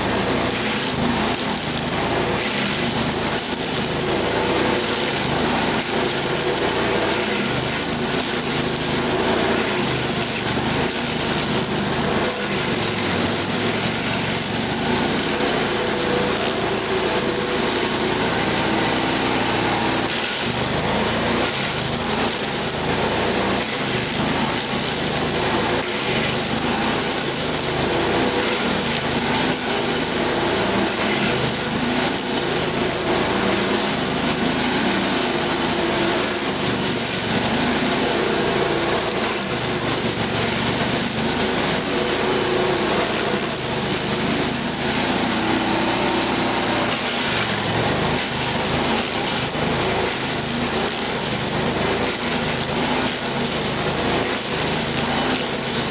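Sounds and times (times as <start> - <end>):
stump grinder grinding wood: 0.0 - 55.9.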